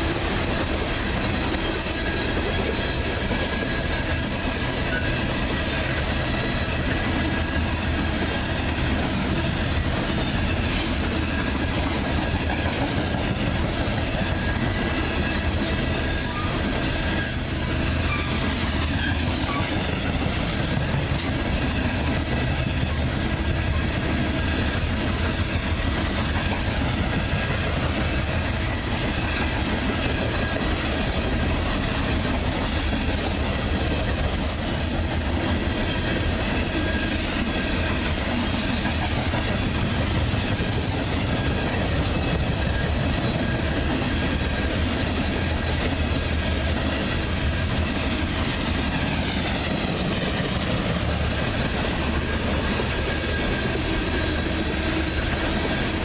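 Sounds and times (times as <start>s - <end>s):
steel train wheels on rails: 0.0s - 56.0s.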